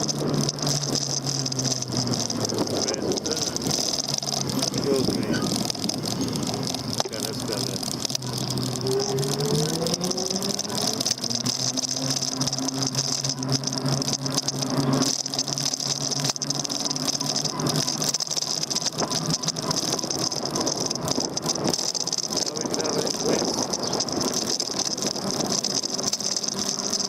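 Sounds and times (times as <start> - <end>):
e-bike rattling over road: 0.0 - 27.0
low motor hum: 0.0 - 27.0.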